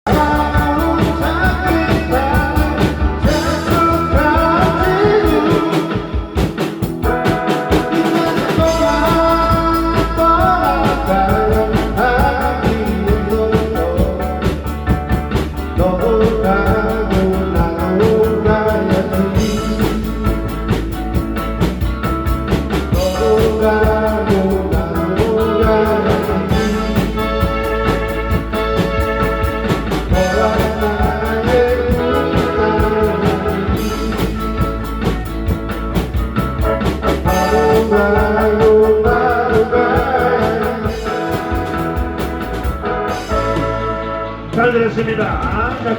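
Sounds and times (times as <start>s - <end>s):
lead singer: 0.0s - 45.9s
live rock band: 0.0s - 45.9s.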